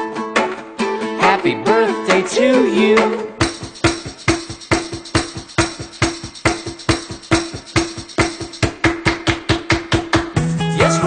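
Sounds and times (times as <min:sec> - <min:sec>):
drums keeping fast beat: 0:01.2 - 0:11.0.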